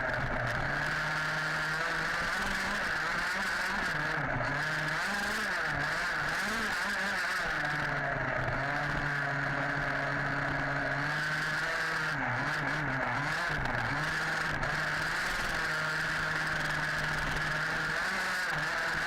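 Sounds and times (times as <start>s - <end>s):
small two-stroke engine revving: 0.0s - 19.0s.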